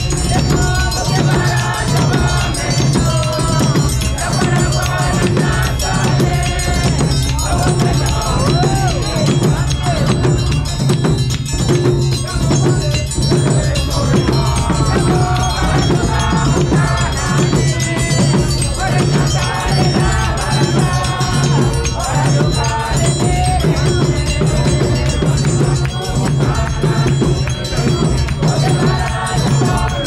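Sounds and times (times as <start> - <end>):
choir singing a hymn: 0.0 - 10.9, 12.2 - 30.0
steady beat: 0.0 - 30.0.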